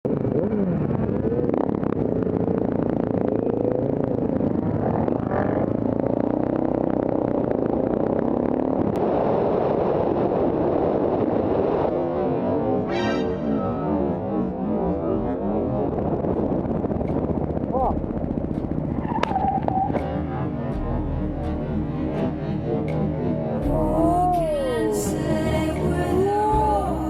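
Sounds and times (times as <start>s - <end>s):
motorcycle engines revving: 0.1s - 27.0s.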